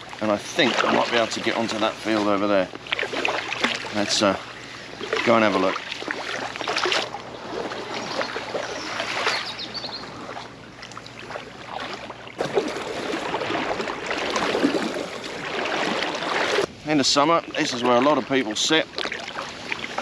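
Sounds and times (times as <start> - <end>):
paddle strokes splashing: 0.0 - 20.0
wash of water: 0.0 - 20.0.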